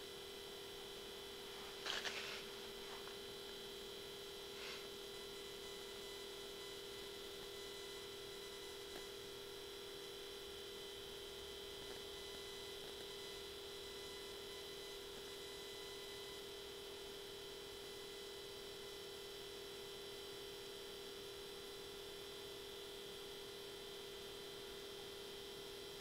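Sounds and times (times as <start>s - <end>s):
two-tone steady hum: 0.0s - 26.0s.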